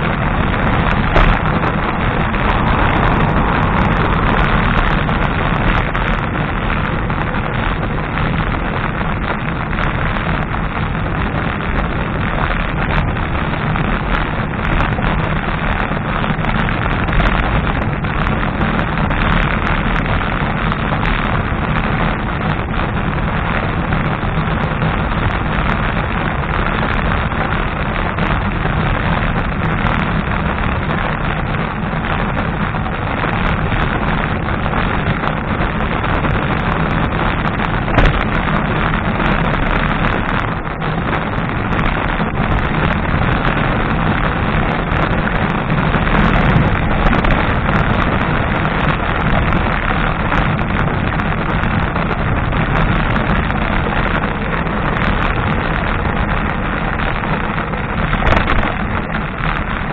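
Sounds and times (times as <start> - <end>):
road rumble: 0.0 - 59.9
wind on microphone: 0.0 - 59.9.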